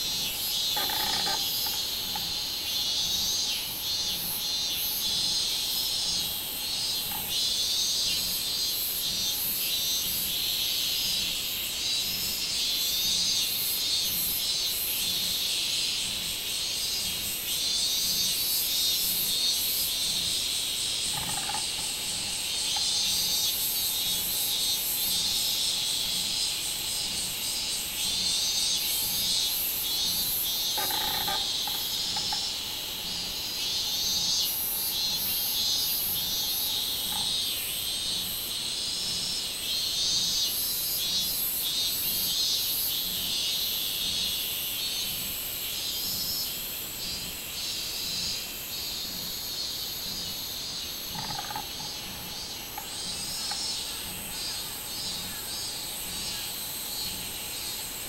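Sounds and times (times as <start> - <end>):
cicadas calling: 0.0 - 58.0.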